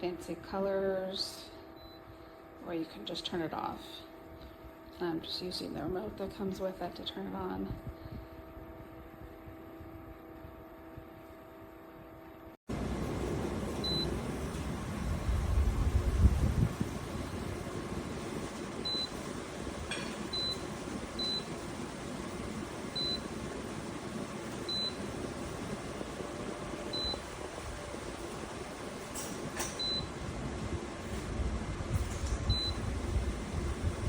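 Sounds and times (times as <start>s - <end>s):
fan humming: 0.0s - 34.0s.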